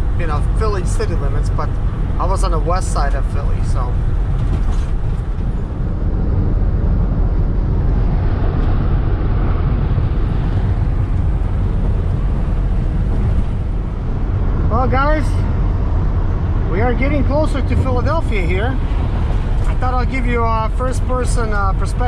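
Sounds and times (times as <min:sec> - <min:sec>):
van road and engine drone: 0:00.0 - 0:22.0.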